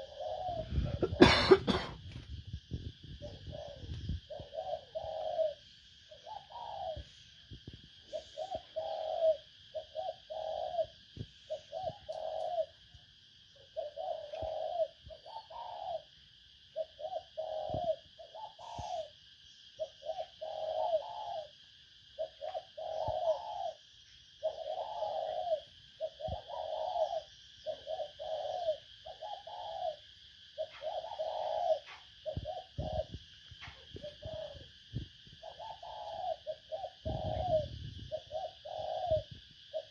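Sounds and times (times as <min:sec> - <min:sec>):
dove cooing: 0:00.0 - 0:01.9, 0:02.9 - 0:39.9.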